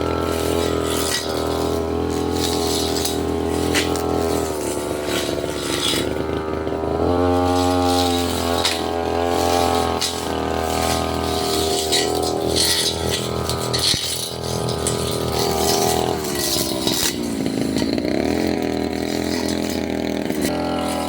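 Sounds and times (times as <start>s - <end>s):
blade ticking on stems: 0.0s - 21.0s
brush cutter engine running: 0.0s - 21.0s.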